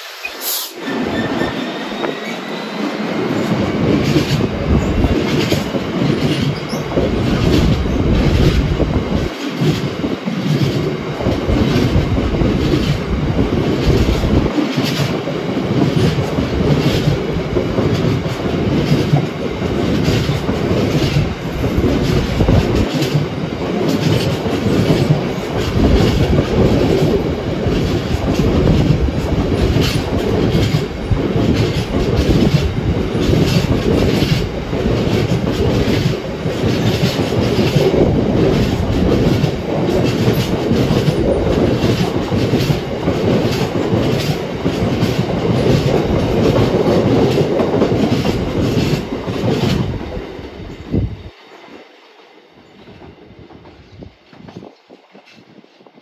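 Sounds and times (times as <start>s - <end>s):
train rumble: 0.0s - 56.0s
train wheels clattering over rail joints: 0.8s - 50.2s.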